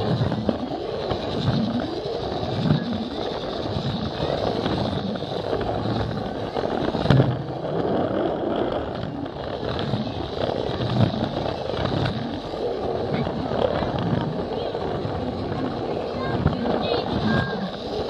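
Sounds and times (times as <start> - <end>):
people talking: 0.0 - 8.1, 8.8 - 18.0
toy train motor whirring: 0.0 - 18.0
toy train wheels rattling: 0.0 - 18.0.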